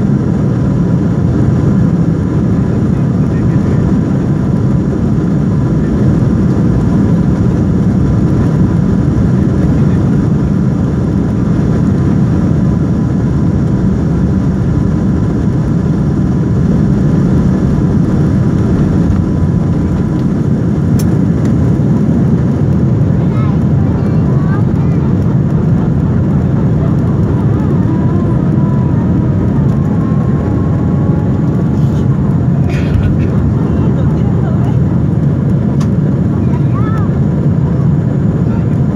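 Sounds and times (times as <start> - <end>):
jet engines roaring at takeoff: 0.0 - 38.9.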